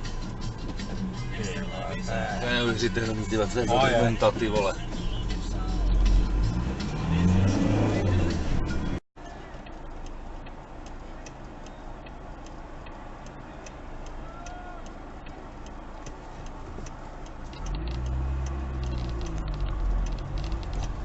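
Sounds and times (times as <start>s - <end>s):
engine and road noise: 0.0s - 21.0s
turn signal clicking: 0.0s - 21.0s.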